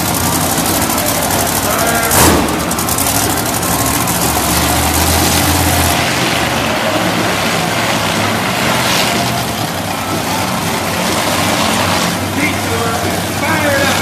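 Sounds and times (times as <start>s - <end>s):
truck engine running loudly: 0.0s - 14.0s.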